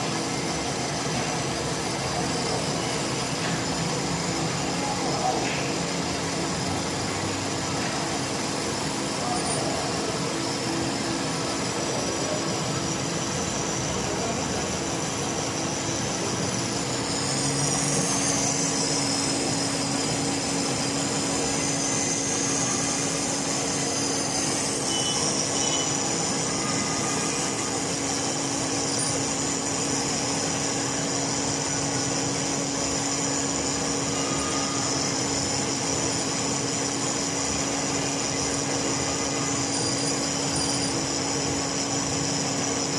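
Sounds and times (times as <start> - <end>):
metal lathe running: 0.0 - 42.9.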